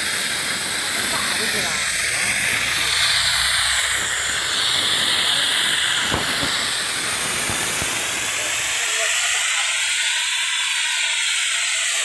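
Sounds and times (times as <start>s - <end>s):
pneumatic extractor hissing: 0.0s - 12.0s.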